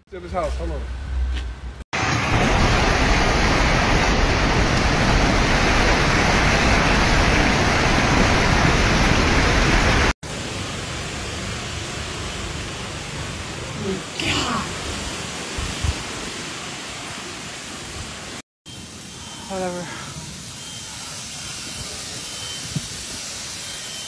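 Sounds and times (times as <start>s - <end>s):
wind: 0.0s - 24.0s
heavy rain: 2.0s - 24.0s.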